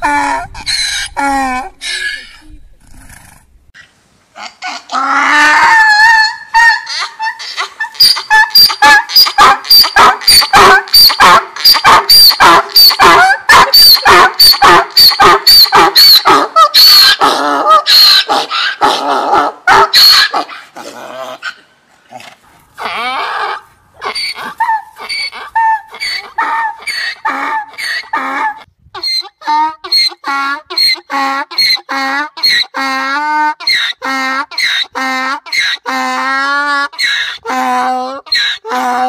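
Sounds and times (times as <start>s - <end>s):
donkey braying: 0.0s - 2.6s, 4.4s - 21.7s, 22.8s - 39.0s.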